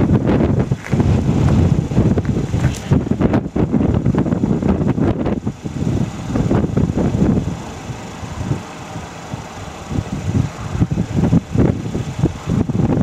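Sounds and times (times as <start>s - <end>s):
low uneven rumbling: 0.0s - 13.0s
wind buffeting the microphone: 0.0s - 13.0s.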